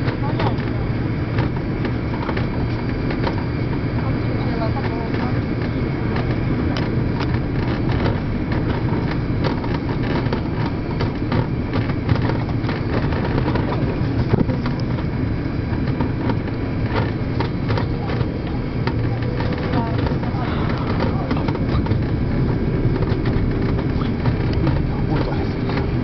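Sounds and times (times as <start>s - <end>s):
airliner cabin rumble: 0.0s - 26.0s
small clicks and rattles: 0.0s - 26.0s.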